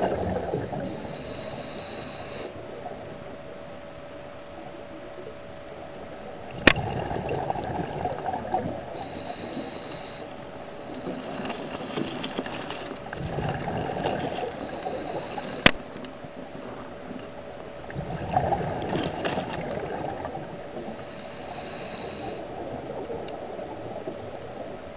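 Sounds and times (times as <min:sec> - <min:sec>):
underwater bubbles gurgling: 0:00.0 - 0:03.7, 0:04.5 - 0:24.9
steady thin hiss: 0:00.4 - 0:06.3, 0:08.6 - 0:17.9, 0:18.7 - 0:24.8.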